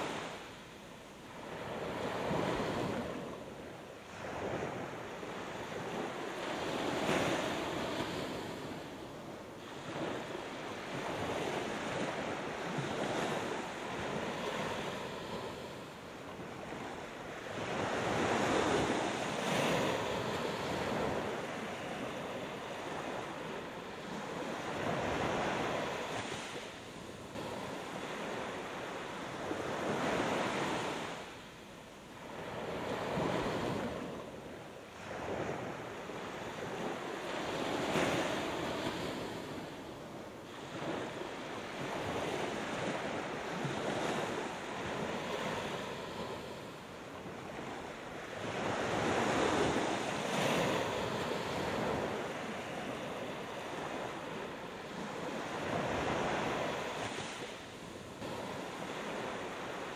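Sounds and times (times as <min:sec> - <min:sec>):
small waves breaking on sand: 0:00.0 - 0:00.6, 0:01.2 - 0:59.9.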